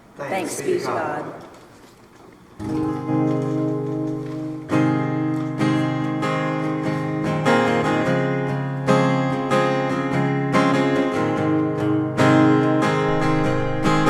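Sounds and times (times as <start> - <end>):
acoustic guitar strumming chords: 2.6 - 14.0.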